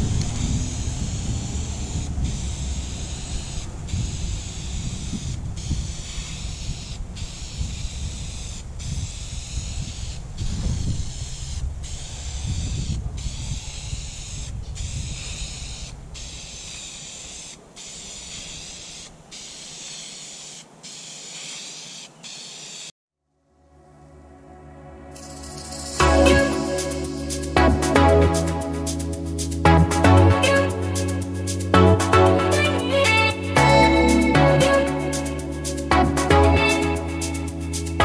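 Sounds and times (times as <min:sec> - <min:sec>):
aerosol spray can hissing: 0:00.0 - 0:22.9, 0:25.2 - 0:38.0.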